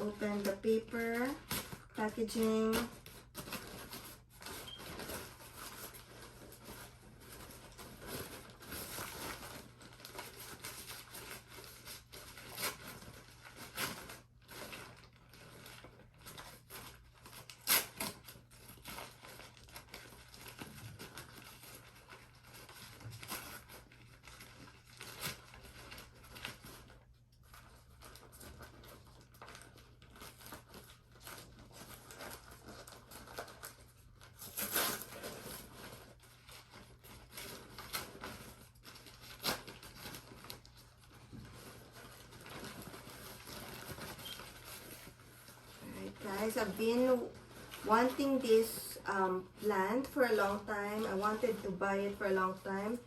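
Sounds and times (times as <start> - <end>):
paper packaging crinkling and tearing: 0.0 - 53.0.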